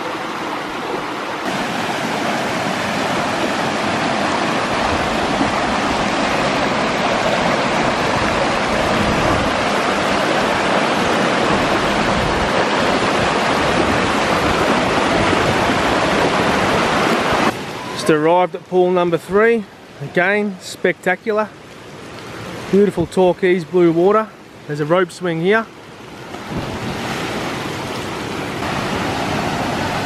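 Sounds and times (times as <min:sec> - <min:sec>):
stream water rushing over boulders: 0:00.0 - 0:30.0.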